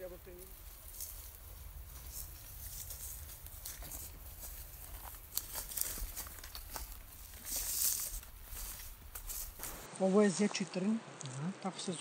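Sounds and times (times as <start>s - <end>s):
footsteps rustling through grass: 0.0s - 10.7s.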